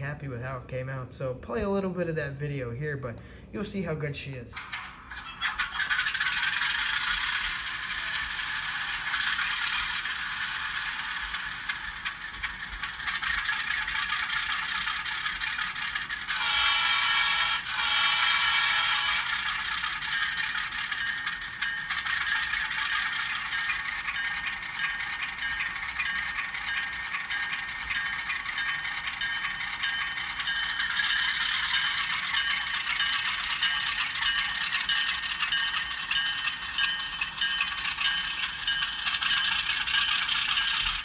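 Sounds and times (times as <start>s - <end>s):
model train running on track: 0.0s - 3.0s, 3.6s - 41.0s.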